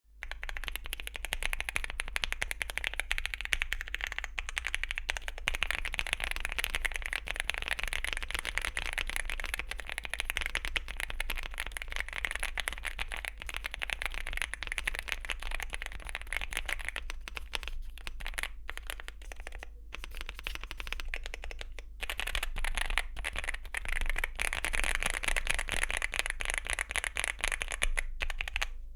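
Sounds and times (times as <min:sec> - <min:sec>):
mechanical keyboard typing: 0:00.2 - 0:28.8.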